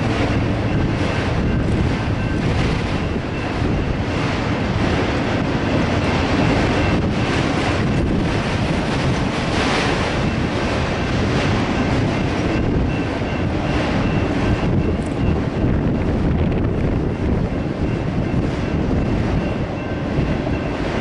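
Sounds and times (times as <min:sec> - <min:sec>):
freight cars rumbling and rattling: 0:00.0 - 0:21.0.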